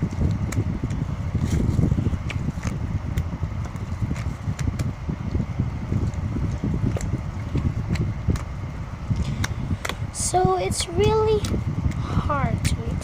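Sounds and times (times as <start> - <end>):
low handling rumble: 0.0 - 13.0.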